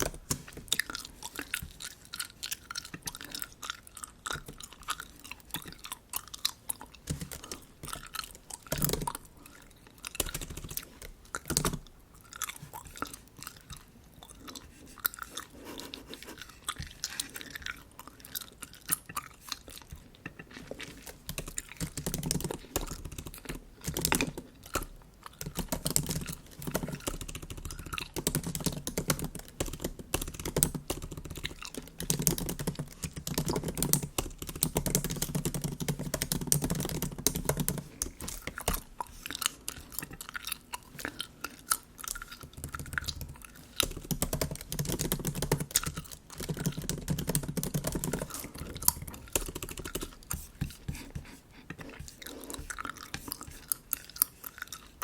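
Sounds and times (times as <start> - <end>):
gum chewing smacks: 0.0 - 55.0.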